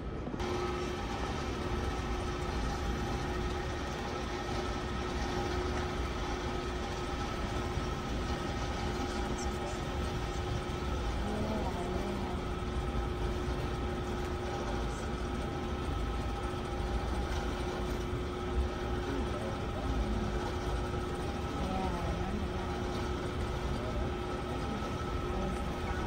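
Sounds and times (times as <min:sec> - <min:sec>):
mechanical hum: 0:00.0 - 0:26.0
faint voices: 0:03.9 - 0:16.6, 0:17.7 - 0:26.0.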